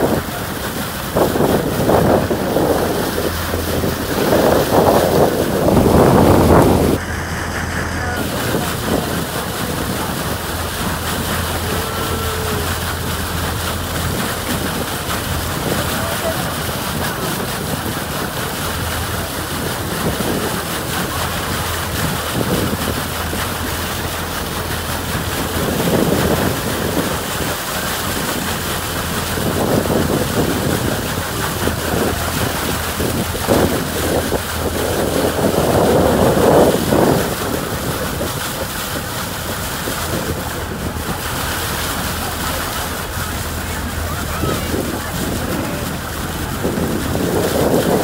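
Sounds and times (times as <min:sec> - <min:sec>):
low engine hum: 0:00.0 - 0:48.0
water rushing at boat bow: 0:00.0 - 0:48.0
wind on microphone: 0:00.0 - 0:48.0.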